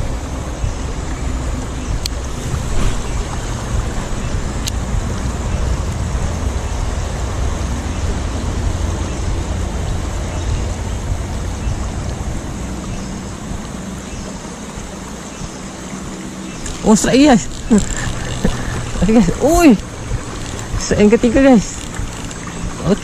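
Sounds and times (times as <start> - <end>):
heavy low rumble: 0.0 - 23.0
stream rushing: 0.0 - 23.0.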